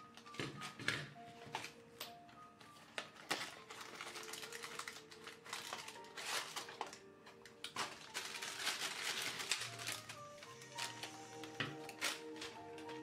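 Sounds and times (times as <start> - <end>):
plastic wrapping crinkling: 0.0 - 13.0
soft background music: 0.0 - 13.0.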